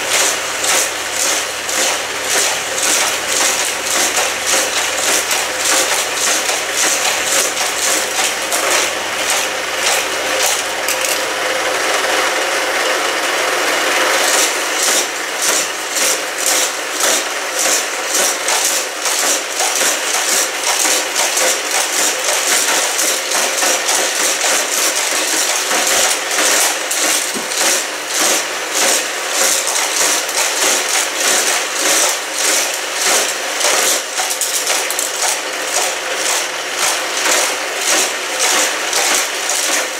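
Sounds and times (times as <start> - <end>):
toy cars clattering and clacking: 0.0 - 11.3, 14.1 - 39.9
toy track wheels whirring: 0.0 - 11.6, 13.6 - 39.9.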